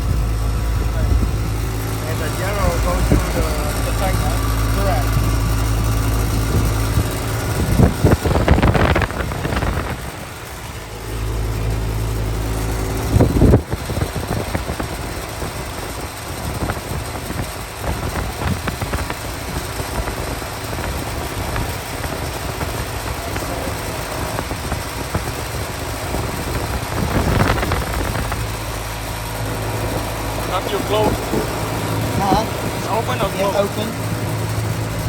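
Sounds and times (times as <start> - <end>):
air conditioner humming: 0.0 - 17.8, 20.4 - 35.0
loud noisy bursts: 0.0 - 35.0.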